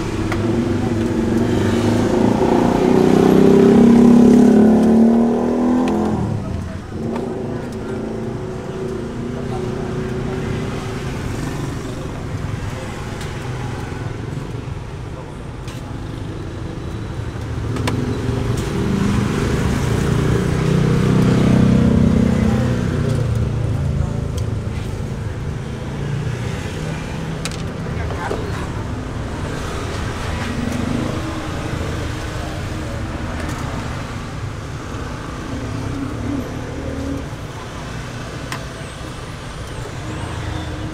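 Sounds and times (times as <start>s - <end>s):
road traffic: 0.0s - 40.9s.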